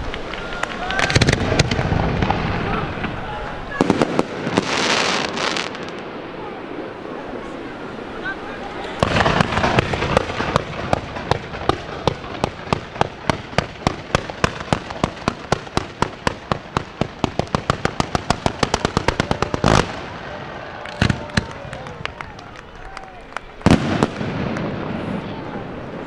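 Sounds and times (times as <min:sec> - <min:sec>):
fireworks launching reports: 0:00.0 - 0:26.0
loud firework blast: 0:00.9 - 0:07.5, 0:08.9 - 0:22.2, 0:23.6 - 0:26.0.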